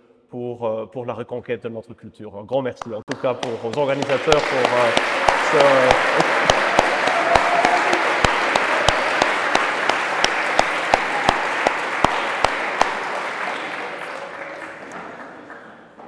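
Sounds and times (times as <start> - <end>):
loud sharp claps close by: 2.8 - 16.0
audience applauding: 3.1 - 16.0.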